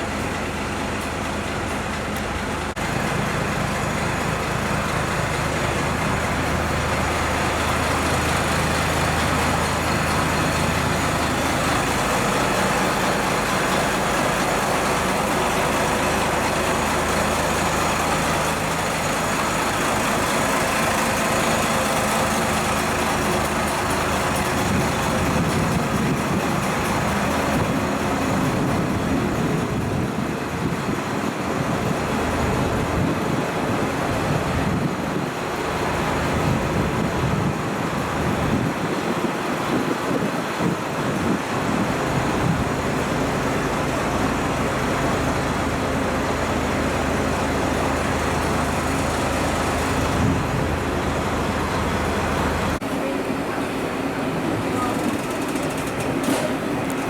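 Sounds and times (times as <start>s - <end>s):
diesel engine idling: 0.0s - 57.0s
station noise: 0.0s - 57.0s.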